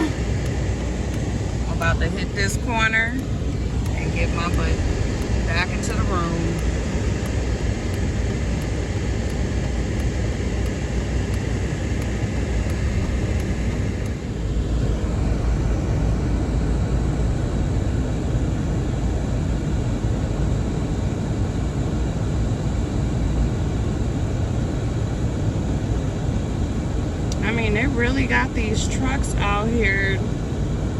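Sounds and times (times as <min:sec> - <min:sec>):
road and engine noise in car: 0:00.0 - 0:30.9.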